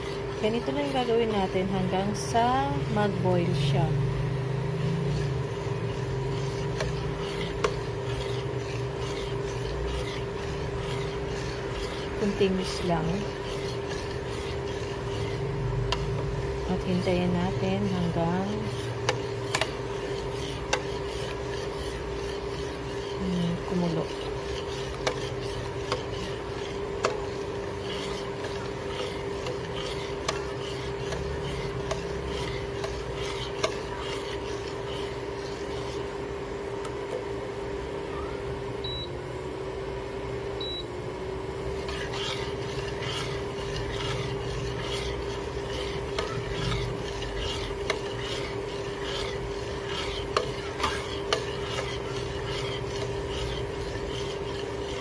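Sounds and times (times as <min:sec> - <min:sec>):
metal spoon scraping a pot: 0:00.0 - 0:03.9, 0:04.8 - 0:36.1, 0:41.8 - 0:55.0
steady hum: 0:00.0 - 0:55.0.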